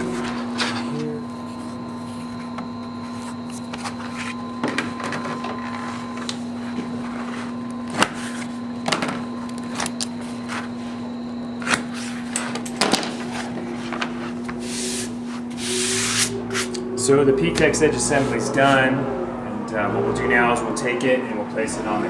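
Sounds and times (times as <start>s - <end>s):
workshop machinery hum: 0.0s - 22.0s.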